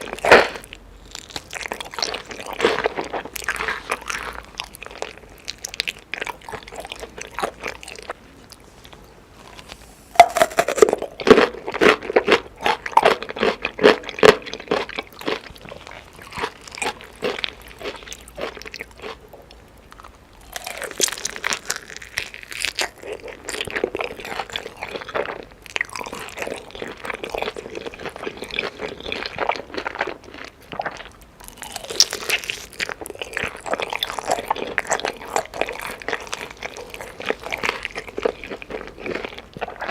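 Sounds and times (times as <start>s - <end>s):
crispy chicken crunching: 0.0s - 39.9s
quiet chewing: 0.0s - 39.9s.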